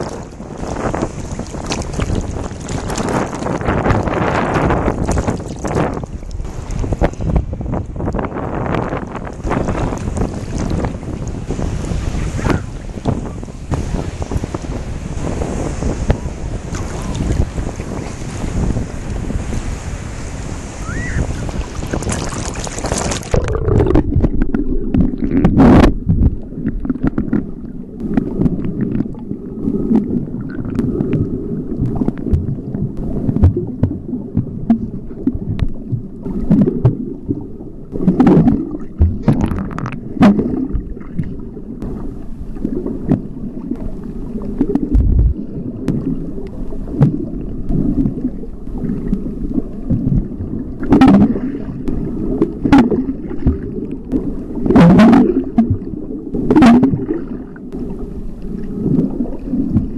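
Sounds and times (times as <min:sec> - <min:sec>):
underwater rumble of moving water: 0:00.0 - 0:59.9.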